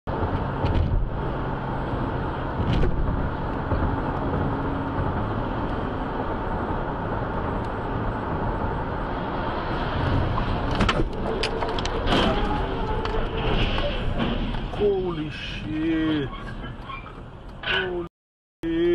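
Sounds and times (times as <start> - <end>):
car road and engine rumble: 0.1 - 18.9.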